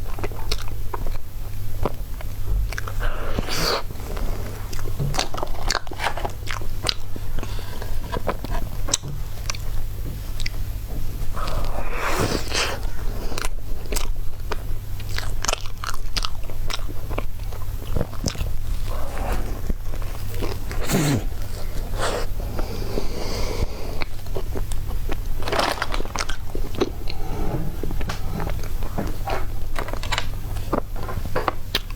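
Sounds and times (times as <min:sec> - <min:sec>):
steady low hum: 0:00.0 - 0:31.9
person chewing and biting: 0:00.1 - 0:09.7, 0:11.4 - 0:31.9.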